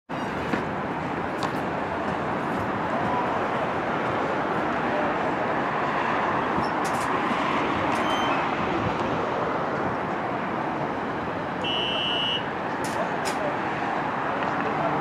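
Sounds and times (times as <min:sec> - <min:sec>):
city traffic noise: 0:00.1 - 0:15.0.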